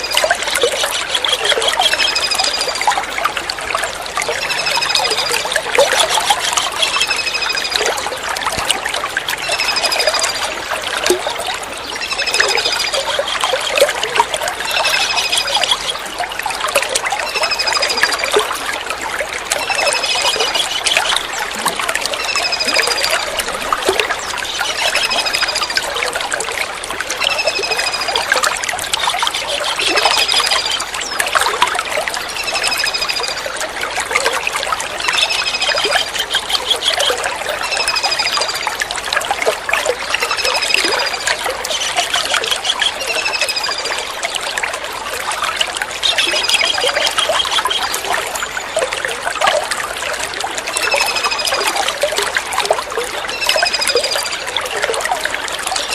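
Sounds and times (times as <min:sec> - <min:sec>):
trickle of running water: 0:00.0 - 0:55.9.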